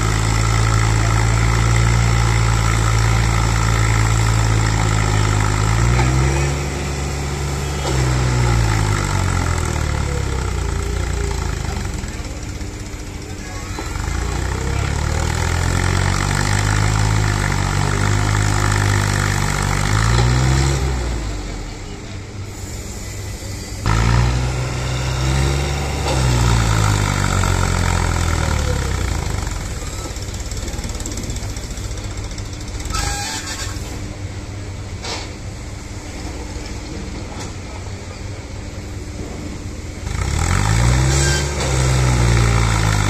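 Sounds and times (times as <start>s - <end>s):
tractor diesel engine: 0.0s - 43.0s.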